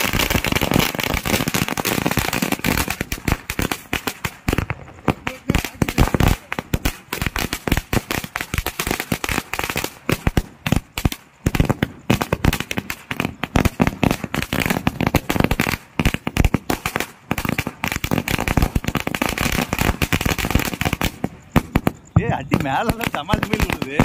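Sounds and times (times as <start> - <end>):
string of firecrackers banging: 0.0 - 24.0.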